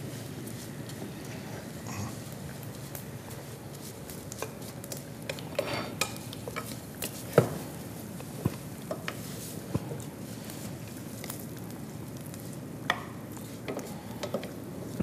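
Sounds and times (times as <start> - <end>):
faint pan sizzle: 0.0 - 15.0.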